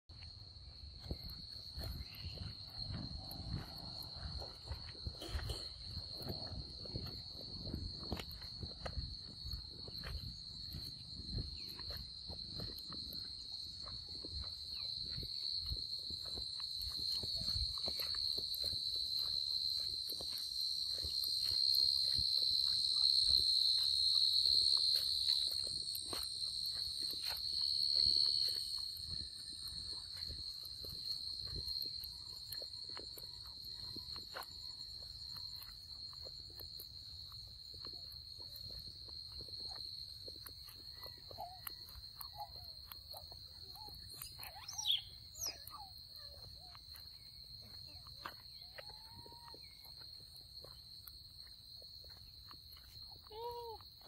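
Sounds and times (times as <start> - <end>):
high-pitched insect chorus: 0.2 - 54.0.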